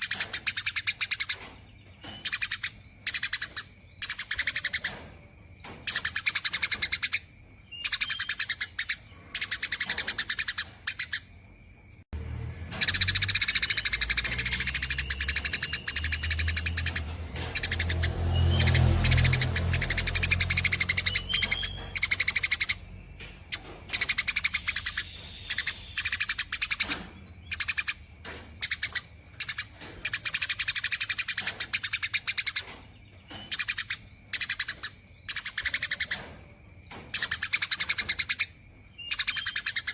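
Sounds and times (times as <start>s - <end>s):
sparrow chattering song: 0.0s - 12.0s, 12.7s - 39.9s.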